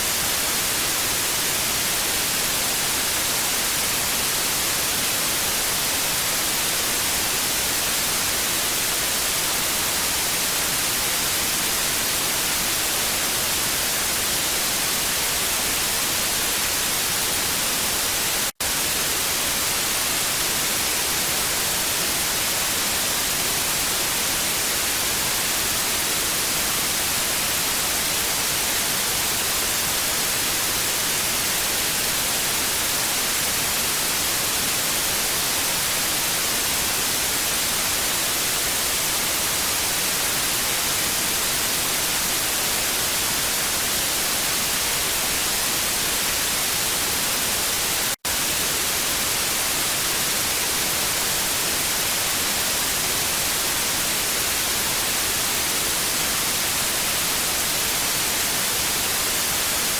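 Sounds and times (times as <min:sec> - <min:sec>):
tv static hiss: 0:00.0 - 0:59.9.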